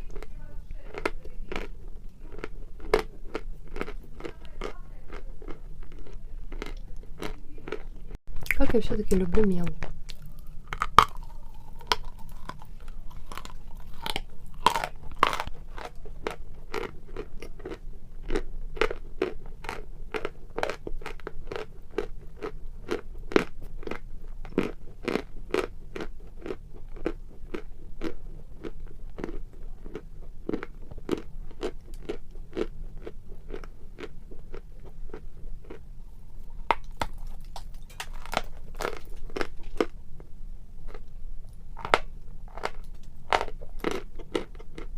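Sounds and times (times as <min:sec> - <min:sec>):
person chewing crunchy chalk: 0:00.0 - 0:08.6, 0:09.8 - 0:44.9.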